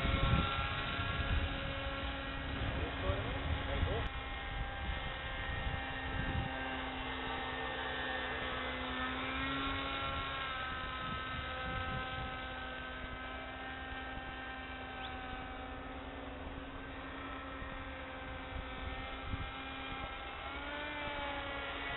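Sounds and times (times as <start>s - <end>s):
model aircraft motor droning: 0.0s - 21.9s.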